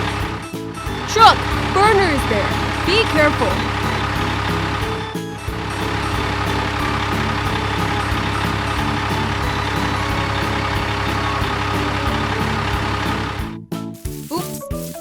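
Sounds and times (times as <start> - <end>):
cartoon truck engine: 0.0 - 13.6
background music: 0.0 - 15.0.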